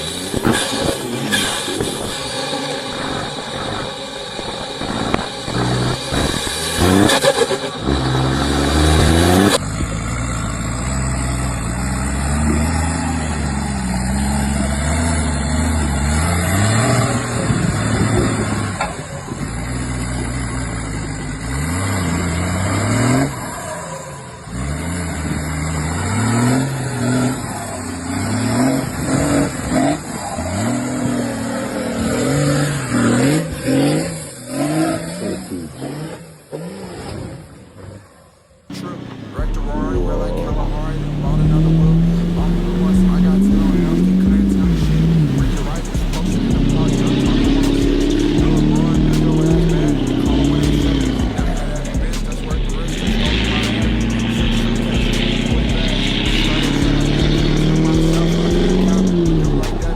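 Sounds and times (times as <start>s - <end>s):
off-road engines revving: 0.0s - 59.9s.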